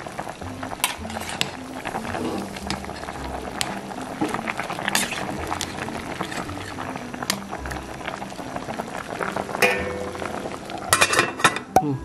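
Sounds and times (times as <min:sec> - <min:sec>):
pot bubbling on the boil: 0:00.0 - 0:12.0.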